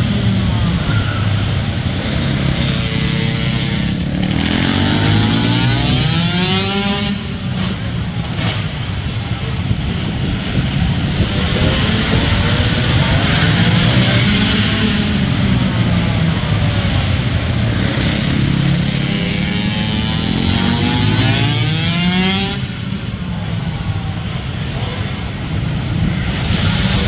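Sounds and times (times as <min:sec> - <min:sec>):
quad engines revving: 0:00.0 - 0:27.0.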